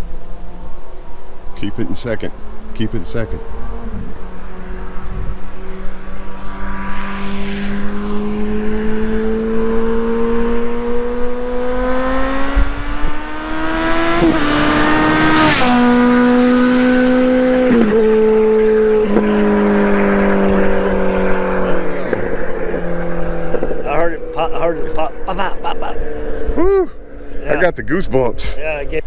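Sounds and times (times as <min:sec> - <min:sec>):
motorcycle engine passing by: 0:00.0 - 0:28.8.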